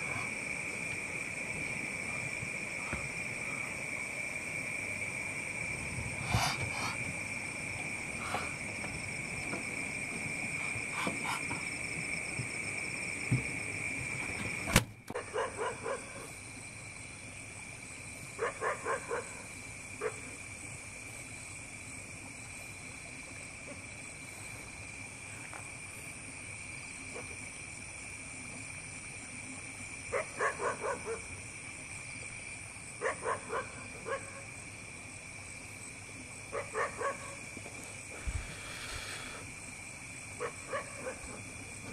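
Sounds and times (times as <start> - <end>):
night insects droning: 0.0 - 41.9.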